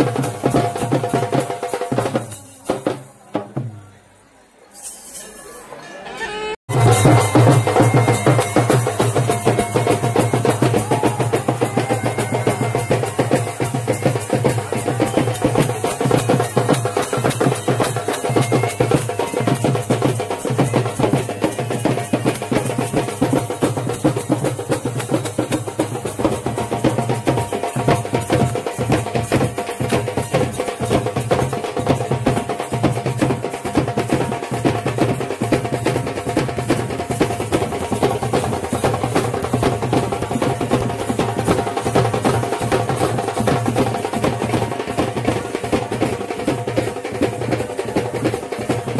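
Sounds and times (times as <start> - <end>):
drums beaten hard: 0.0 - 3.9, 6.7 - 48.9.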